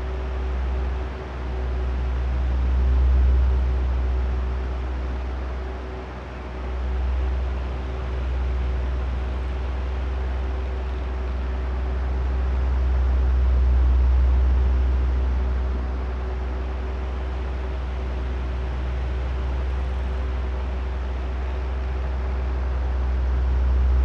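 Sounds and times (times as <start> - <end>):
fan motor hum: 0.0 - 24.0.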